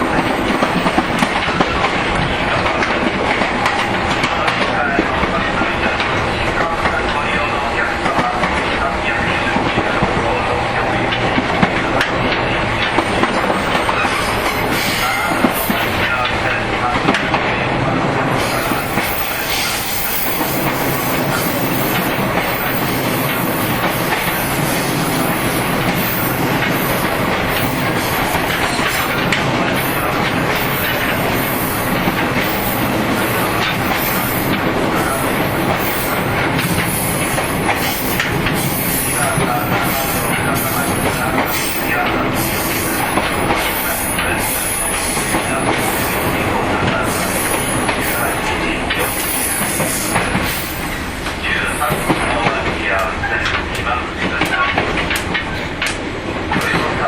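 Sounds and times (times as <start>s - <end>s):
rail-joint clicks: 0.0s - 7.4s, 8.0s - 17.6s, 18.5s - 57.0s
train wheels on rails: 0.0s - 57.0s.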